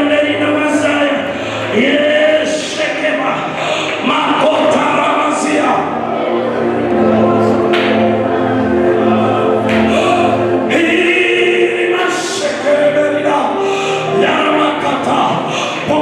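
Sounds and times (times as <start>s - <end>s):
choir singing gospel with music: 0.0s - 16.0s.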